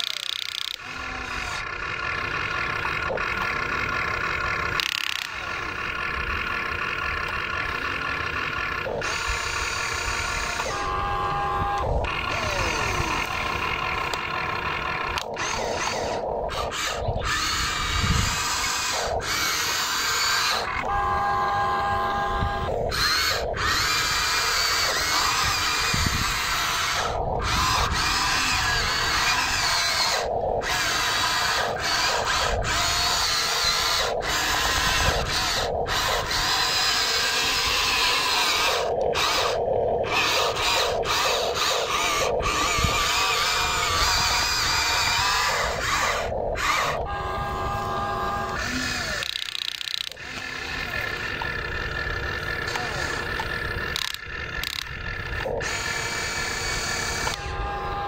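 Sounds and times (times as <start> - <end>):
electric gear motors whining: 0.0 - 58.0.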